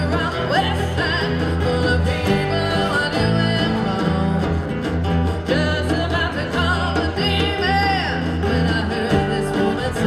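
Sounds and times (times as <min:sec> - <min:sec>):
acoustic guitars: 0:00.0 - 0:10.0
electric bass: 0:00.0 - 0:10.0
woman singing with vibrato: 0:00.0 - 0:10.0.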